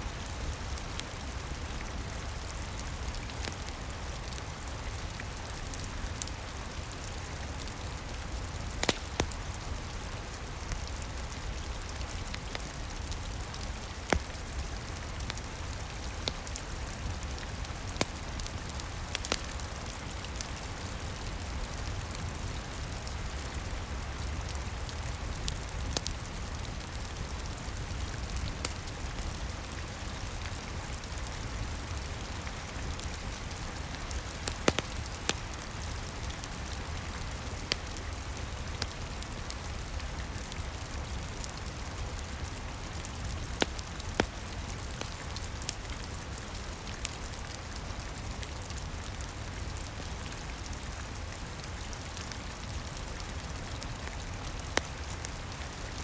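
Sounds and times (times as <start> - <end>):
steady rain: 0.0 - 56.0
wood fire crackling: 0.1 - 56.0.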